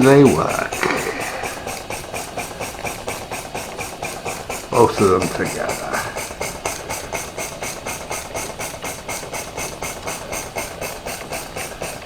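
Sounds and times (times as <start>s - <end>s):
steady steam hiss: 0.0s - 12.0s
steam engine exhaust chuffs: 0.0s - 12.0s.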